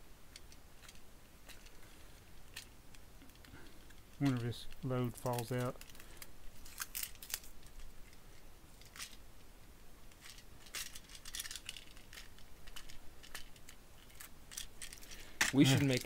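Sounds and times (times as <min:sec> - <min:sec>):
plastic toy parts clicking: 0:00.3 - 0:01.8, 0:02.4 - 0:08.2, 0:10.1 - 0:16.0.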